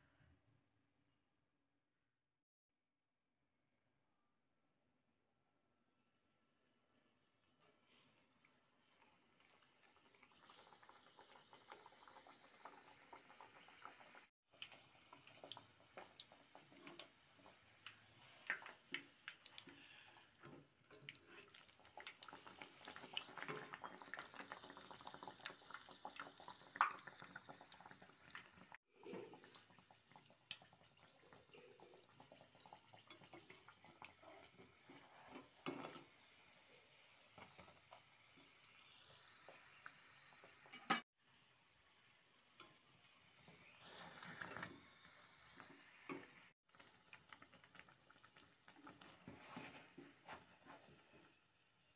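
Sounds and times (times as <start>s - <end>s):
frying sizzle with crackles: 7.5s - 51.9s.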